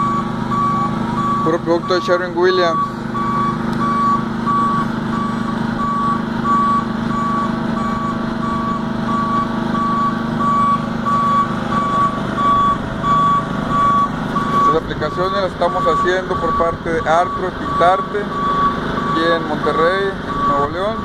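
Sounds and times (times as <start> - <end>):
engine droning: 0.0 - 21.0
high single-tone alarm beeps: 0.0 - 21.0.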